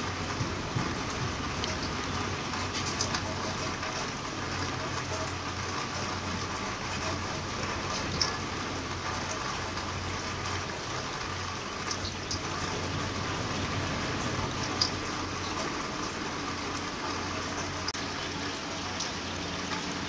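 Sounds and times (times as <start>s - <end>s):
rain on wooden deck: 0.0s - 20.0s
sharp drips: 0.0s - 20.0s.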